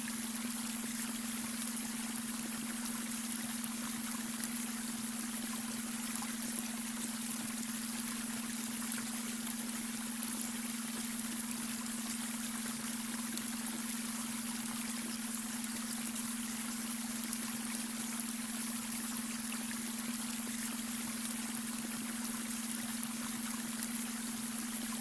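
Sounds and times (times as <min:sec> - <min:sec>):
brook water trickling: 0:00.0 - 0:25.0.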